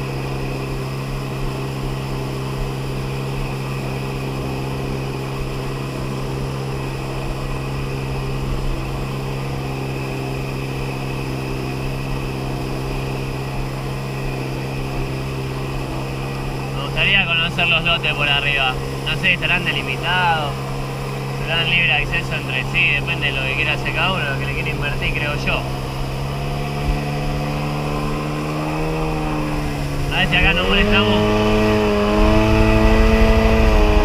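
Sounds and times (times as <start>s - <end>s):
watercraft engine droning: 0.0s - 34.0s.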